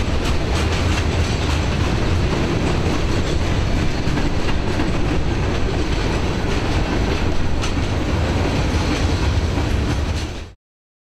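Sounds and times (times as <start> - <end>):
steel wheels rumbling on rails: 0.0 - 10.6.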